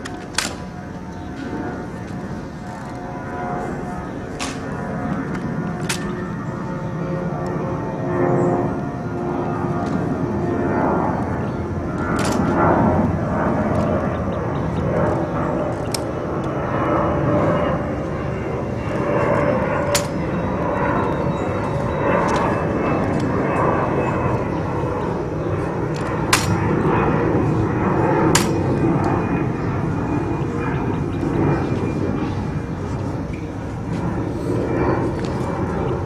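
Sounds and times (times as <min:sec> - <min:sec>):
steady rumble: 0:00.0 - 0:36.0.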